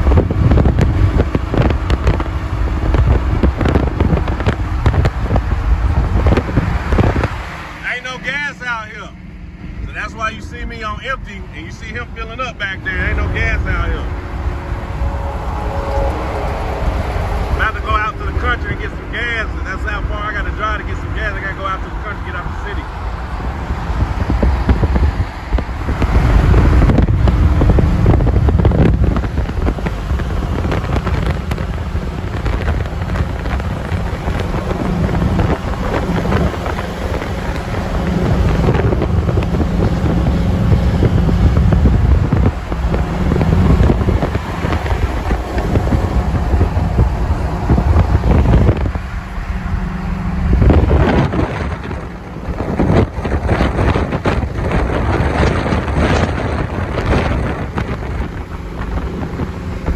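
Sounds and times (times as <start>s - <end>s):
road and traffic noise: 0.0s - 59.9s
wind buffeting microphone: 0.0s - 59.9s.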